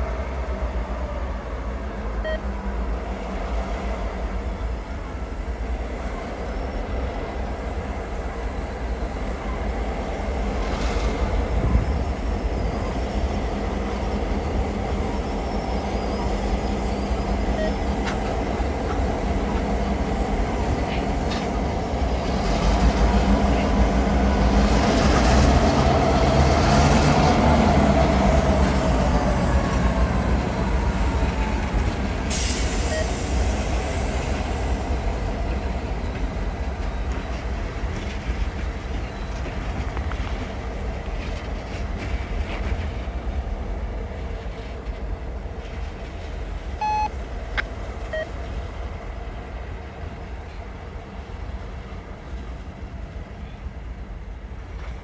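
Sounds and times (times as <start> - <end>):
diesel locomotive rumble: 0.0 - 55.0
wheel and rail noise: 0.0 - 55.0.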